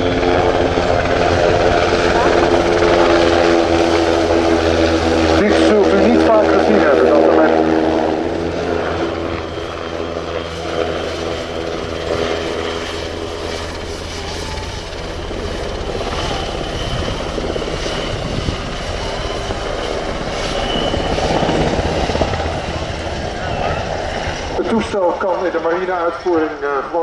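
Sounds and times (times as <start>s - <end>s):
helicopter flying overhead: 0.0s - 27.0s.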